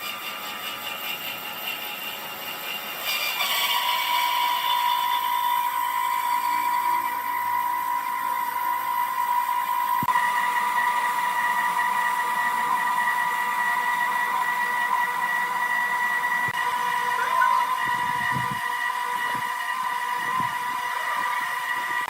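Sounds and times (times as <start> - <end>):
mechanical hum: 0.0 - 22.0
woodworking machine high-pitched whine: 0.0 - 22.0.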